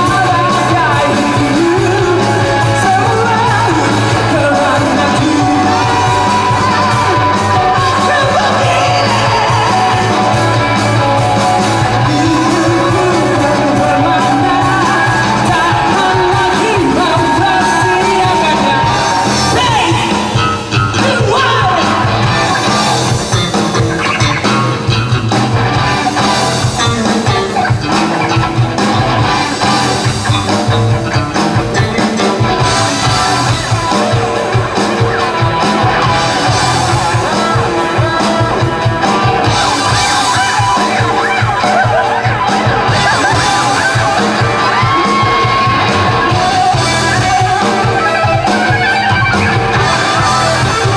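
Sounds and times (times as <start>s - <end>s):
person singing: 0.0s - 25.3s, 25.9s - 50.9s
pulsing drum beat: 0.0s - 50.9s
rock band playing live: 0.0s - 50.9s.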